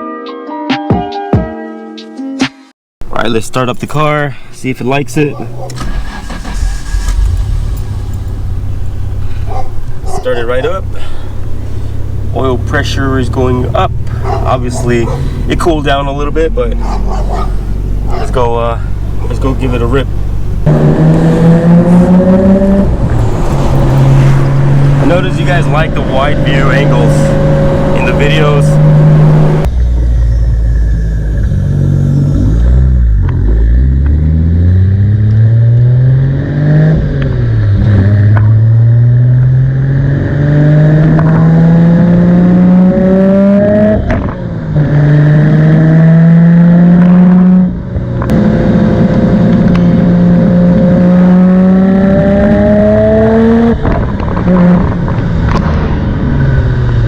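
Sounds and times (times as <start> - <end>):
car engine accelerating: 3.0 - 57.0.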